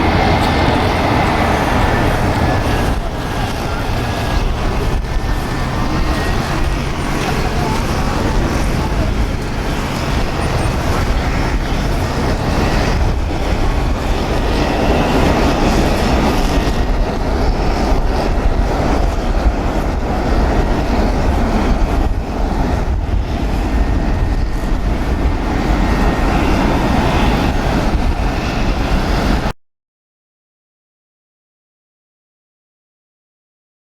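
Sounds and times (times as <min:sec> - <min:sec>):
jet engine roar: 0:00.0 - 0:29.5.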